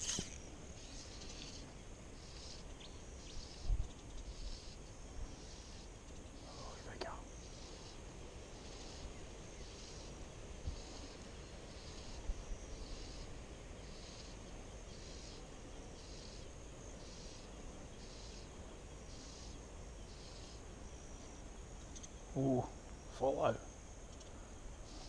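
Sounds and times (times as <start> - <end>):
insect chirping in pulses: 0.0 - 25.0.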